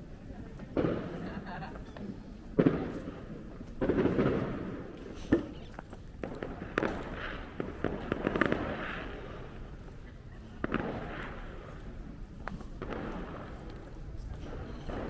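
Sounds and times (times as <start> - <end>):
fireworks crackling: 0.0 - 15.0
fireworks bangs: 0.6 - 15.0.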